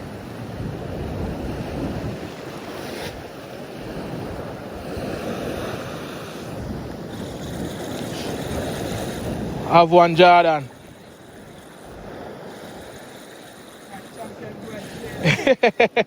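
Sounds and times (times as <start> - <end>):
wind buffeting microphone: 0.0 - 15.4
waves washing against rocks: 0.0 - 16.0.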